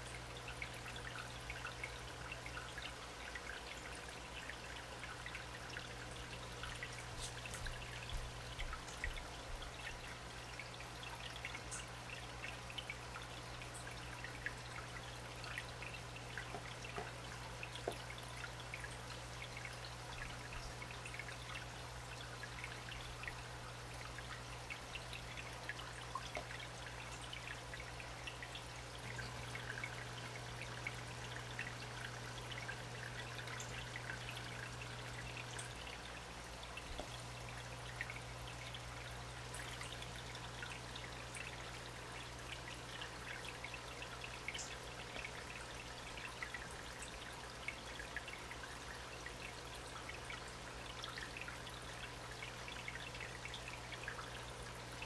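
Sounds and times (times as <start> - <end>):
water pouring into aquarium: 0.0 - 55.0.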